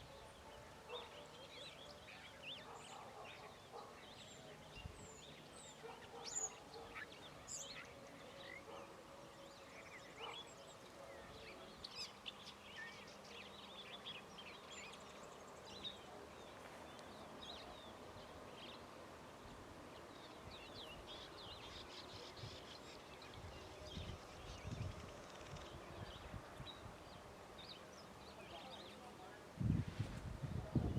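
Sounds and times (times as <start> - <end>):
wild birds chirping and whistling: 0.0 - 29.4.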